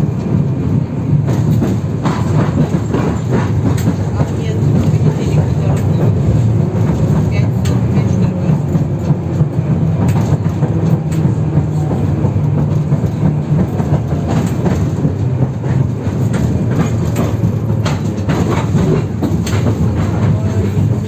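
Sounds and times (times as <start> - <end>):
tram running hum: 0.0 - 21.0
wheels clattering over track: 1.2 - 21.0.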